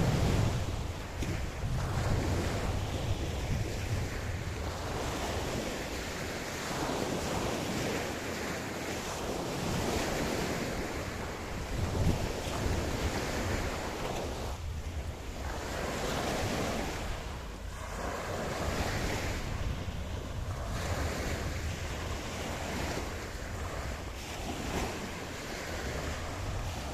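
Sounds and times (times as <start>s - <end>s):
ocean surf breaking on beach: 0.0s - 26.9s
wind noise on microphone: 0.0s - 26.9s.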